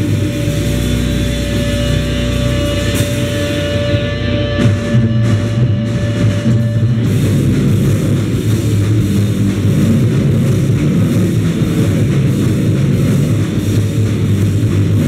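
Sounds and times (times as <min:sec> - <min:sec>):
drum hits: 0:00.0 - 0:15.0
loud distorted guitar: 0:00.0 - 0:15.0
steady held tone: 0:00.0 - 0:15.0.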